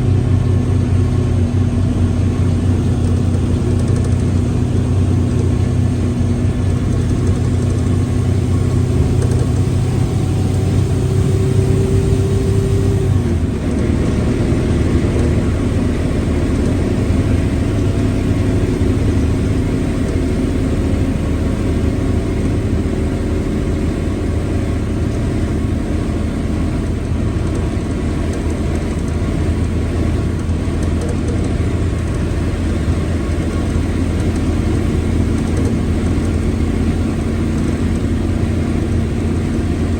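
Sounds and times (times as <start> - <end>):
bus diesel engine running: 0.0 - 39.9
gearbox whine: 0.0 - 39.9.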